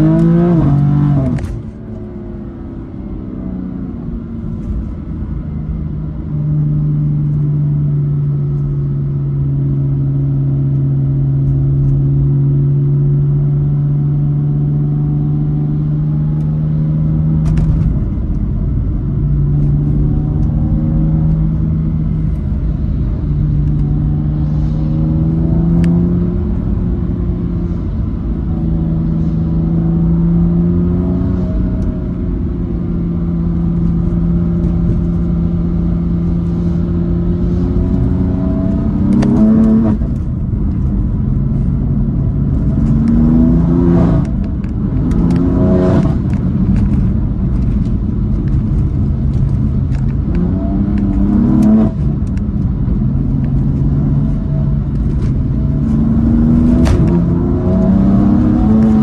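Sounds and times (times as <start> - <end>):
car exhaust drone from cabin: 0.0 - 59.0.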